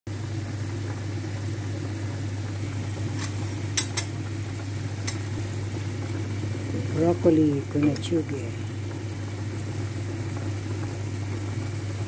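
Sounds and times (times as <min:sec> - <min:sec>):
food cooking in frying pan: 0:00.1 - 0:12.0
steady low hum: 0:00.4 - 0:12.0.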